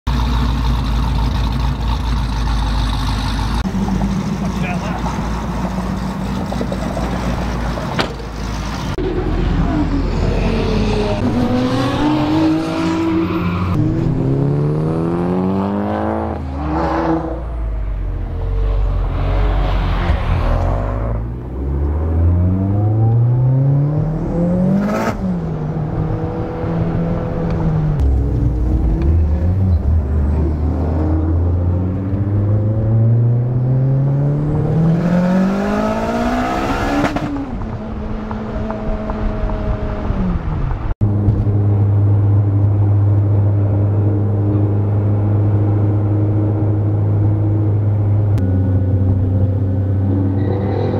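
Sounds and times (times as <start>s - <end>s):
car engine accelerating hard: 8.8s - 50.9s.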